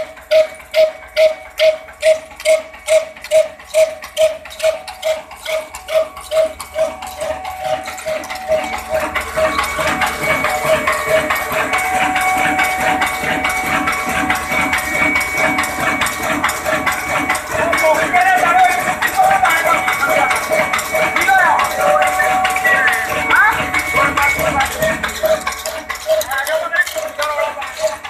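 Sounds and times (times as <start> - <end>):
diesel engine speeding up: 1.9 - 28.0.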